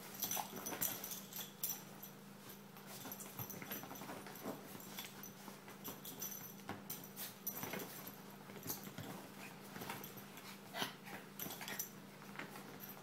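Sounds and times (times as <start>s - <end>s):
soft dog sounds: 0.0s - 13.0s
dogs scuffling on leather: 2.4s - 13.0s.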